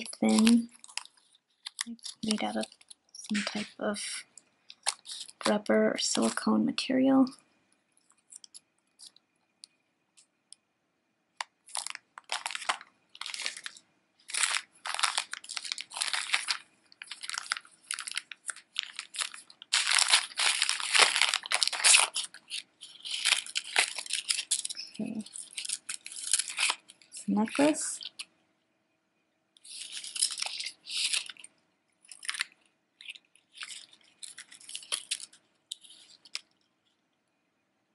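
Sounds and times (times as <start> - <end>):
plastic packaging crinkling: 0.0 - 6.5, 8.0 - 10.3, 11.4 - 28.3, 29.6 - 37.0.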